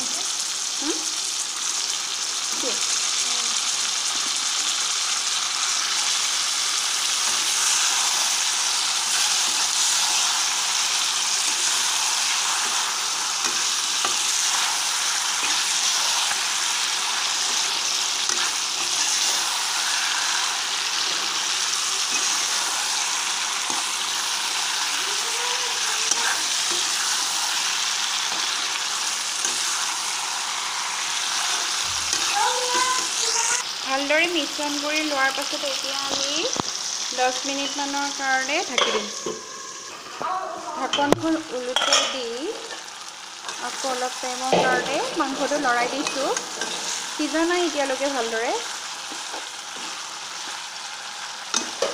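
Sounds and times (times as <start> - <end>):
chicken sizzling in hot oil: 0.0 - 51.9.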